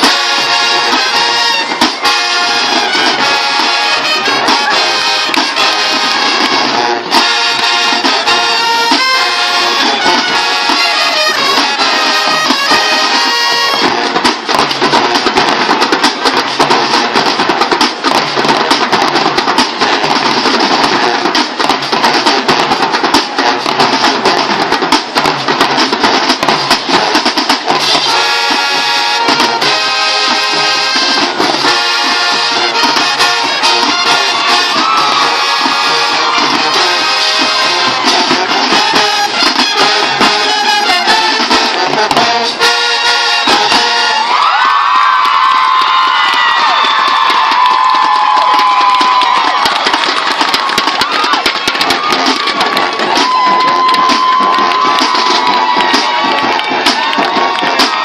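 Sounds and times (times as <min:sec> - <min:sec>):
marching band brass: 0:00.0 - 0:58.0
steady drum beat: 0:00.0 - 0:58.0.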